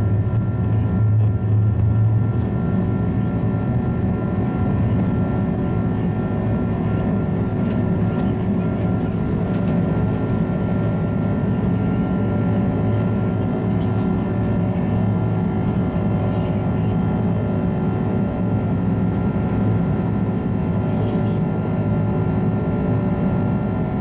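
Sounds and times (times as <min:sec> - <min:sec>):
jet engine cabin rumble: 0:00.0 - 0:24.0
steady engine tones: 0:00.0 - 0:24.0.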